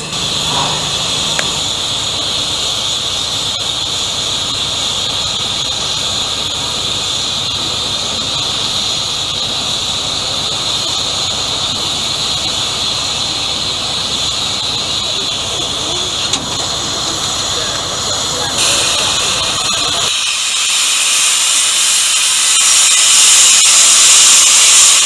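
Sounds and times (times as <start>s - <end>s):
steam locomotive hissing steam: 0.0s - 25.0s.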